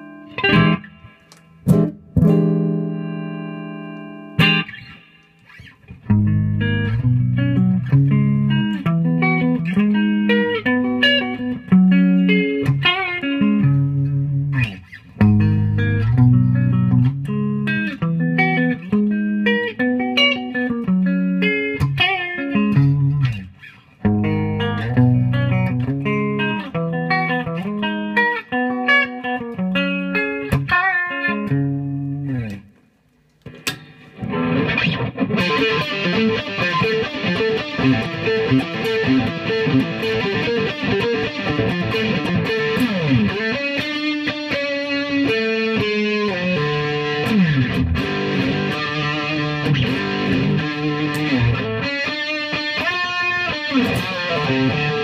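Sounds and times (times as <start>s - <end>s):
electric guitar through amplifier: 0.0s - 55.0s.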